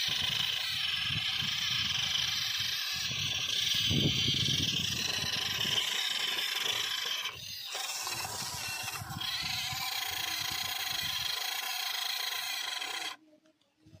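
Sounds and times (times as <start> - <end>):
small electric motors whirring: 0.0 - 13.2
wheels spinning in dirt: 0.0 - 13.2.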